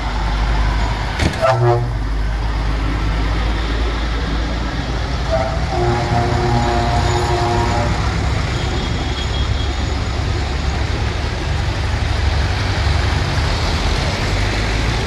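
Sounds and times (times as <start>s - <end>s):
tractor engines rumbling: 0.0s - 15.0s.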